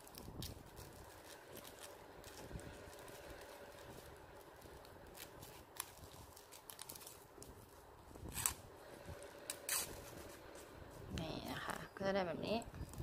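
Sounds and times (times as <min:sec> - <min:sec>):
ribbon rustling and crinkling: 0:00.0 - 0:11.1.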